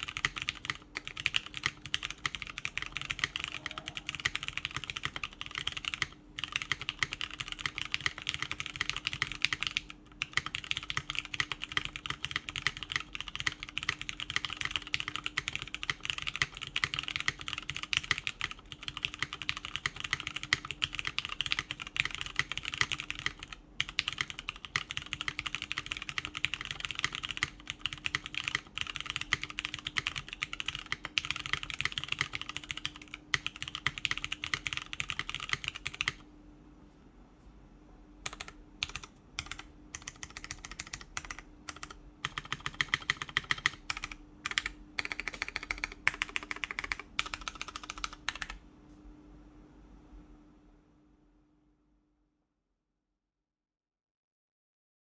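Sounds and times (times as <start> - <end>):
fast typing on mechanical keyboard: 0.0 - 36.2, 38.3 - 48.6.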